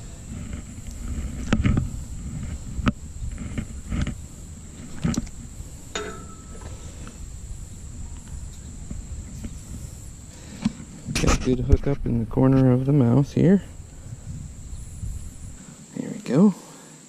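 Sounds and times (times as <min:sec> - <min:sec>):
wind rumble on microphone: 0:00.0 - 0:15.6
microphone handling noise: 0:00.0 - 0:15.7.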